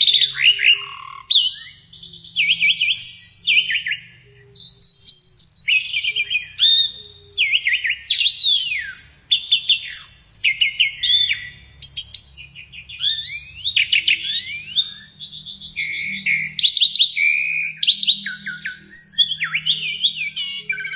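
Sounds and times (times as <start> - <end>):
starling singing whistles and trills: 0.0 - 20.9.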